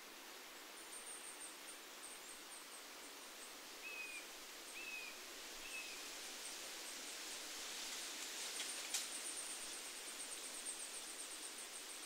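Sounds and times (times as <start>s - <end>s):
wind rustling leaves: 0.0s - 12.0s.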